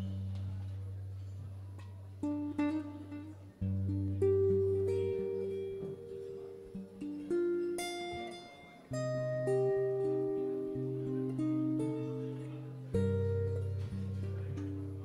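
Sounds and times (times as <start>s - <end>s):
acoustic guitar plucked chords: 0.0s - 15.0s.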